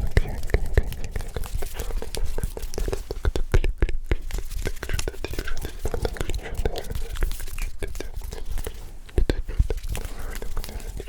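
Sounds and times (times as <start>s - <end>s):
faint whispering: 0.0s - 11.0s
hand clicks and rubs: 0.0s - 11.0s.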